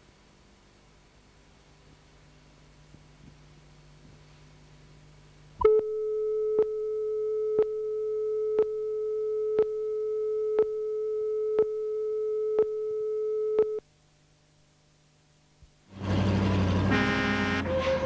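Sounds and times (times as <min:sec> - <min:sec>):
faint hum: 0:00.0 - 0:18.0
steady pure tone: 0:00.9 - 0:17.7.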